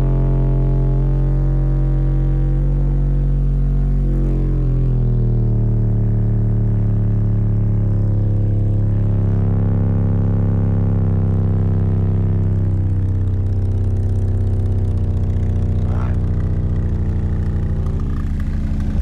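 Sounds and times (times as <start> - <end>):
loud buzzy bass tone from subwoofers: 0.0 - 19.0.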